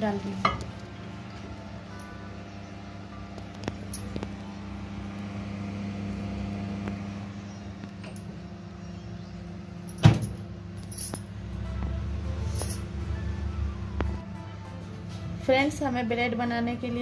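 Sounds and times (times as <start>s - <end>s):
low hum: 0.0s - 15.6s.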